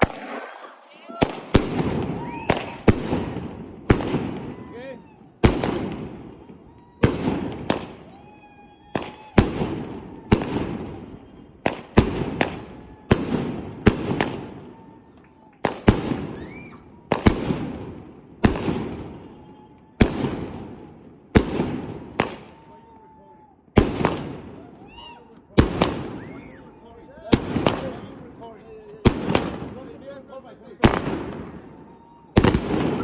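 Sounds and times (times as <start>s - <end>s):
firework bangs with echo: 0.0s - 4.7s, 5.4s - 14.8s, 15.4s - 22.7s, 23.7s - 24.8s, 25.6s - 26.5s, 27.3s - 28.4s, 29.0s - 30.0s, 30.8s - 33.0s.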